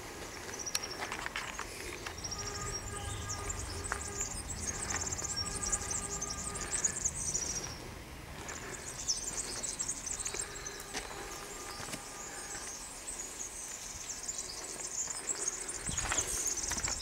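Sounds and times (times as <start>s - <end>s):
high-pitched chirping trills: 2.0s - 7.9s, 8.5s - 17.0s.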